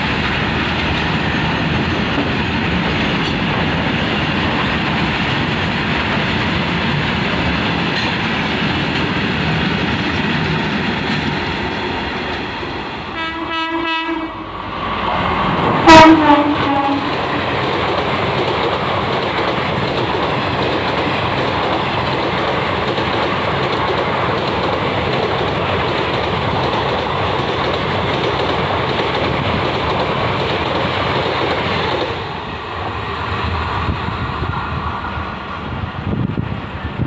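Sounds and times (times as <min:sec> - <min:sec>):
train rushing past: 0:00.0 - 0:37.0.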